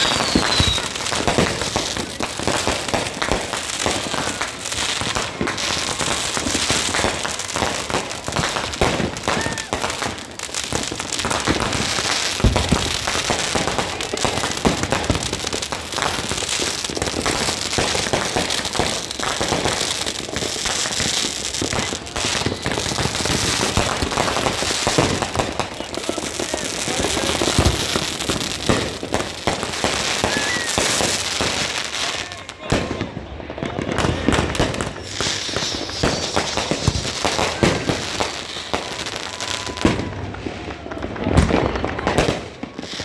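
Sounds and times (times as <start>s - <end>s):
firecrackers crackling: 0.0s - 43.0s.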